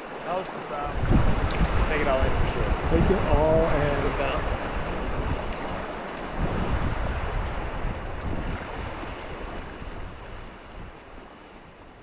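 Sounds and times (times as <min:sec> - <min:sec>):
rushing river water: 0:00.0 - 0:12.0
wind buffeting microphone: 0:00.1 - 0:12.0.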